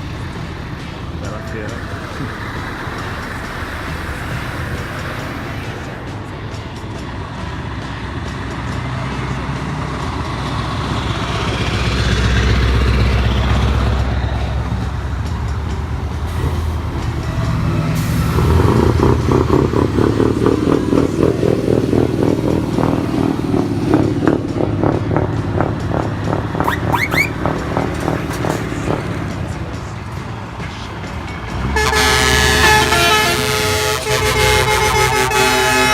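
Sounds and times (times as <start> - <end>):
heavy truck engines running: 0.0 - 35.9
rapidly pulsing diesel engine: 0.0 - 35.9.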